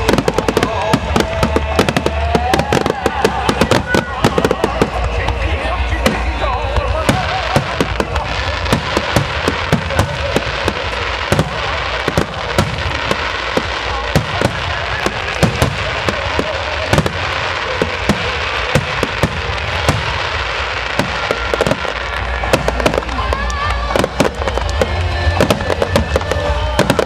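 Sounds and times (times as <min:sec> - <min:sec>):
fireworks bangs: 0:00.0 - 0:27.0
fireworks crackle: 0:00.0 - 0:27.0.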